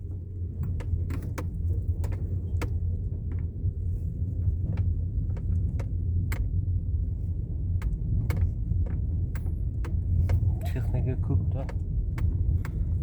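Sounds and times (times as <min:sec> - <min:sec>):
vehicle driving on road: 0:00.0 - 0:13.0
sharp rattles and knocks: 0:00.5 - 0:13.0.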